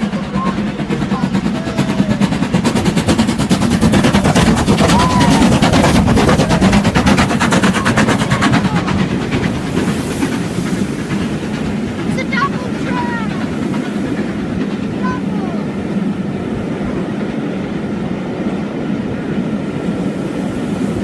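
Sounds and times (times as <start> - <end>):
train passing with fast clatter: 0.0 - 21.0.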